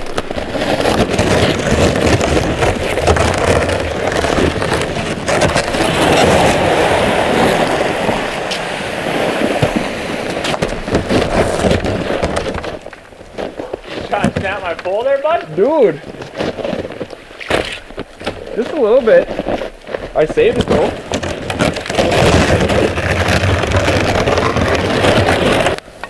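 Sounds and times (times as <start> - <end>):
kayak hull scraping over frozen ground: 0.0 - 25.8.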